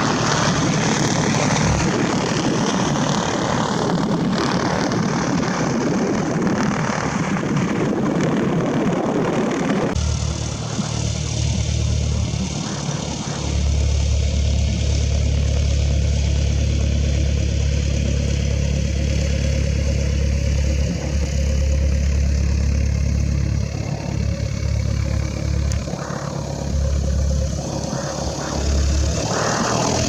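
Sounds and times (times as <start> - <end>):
propeller aircraft engine drone: 0.0 - 30.0.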